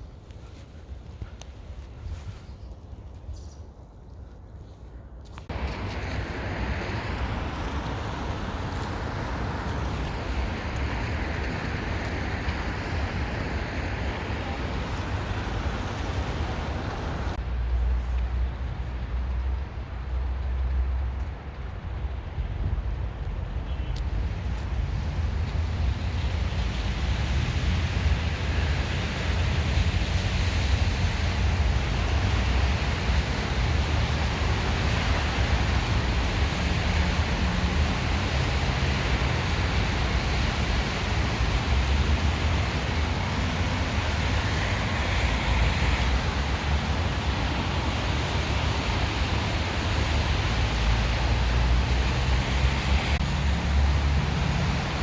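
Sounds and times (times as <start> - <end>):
blizzard wind blowing: 0.0 - 55.0
wind buffeting microphone: 0.0 - 55.0.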